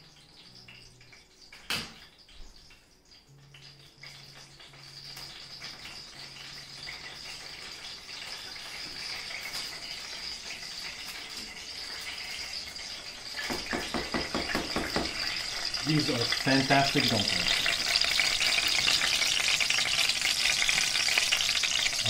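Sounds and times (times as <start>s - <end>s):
dumplings sizzling in hot oil: 0.0s - 22.0s.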